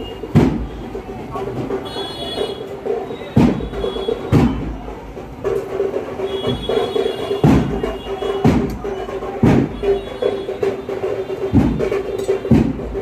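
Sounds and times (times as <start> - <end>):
drums beating: 0.0 - 13.0.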